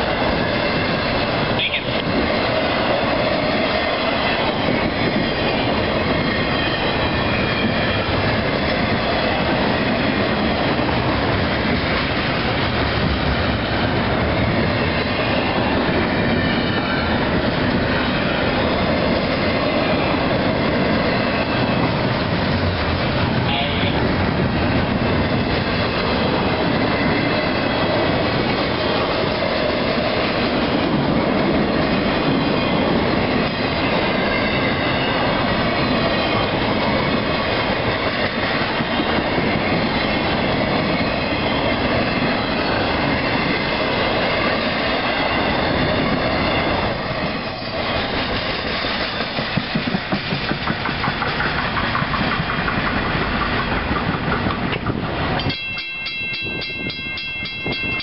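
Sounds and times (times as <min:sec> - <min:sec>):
freight train wheels rumbling: 0:00.0 - 0:58.0
wheels clacking over rail joints: 0:00.0 - 0:58.0.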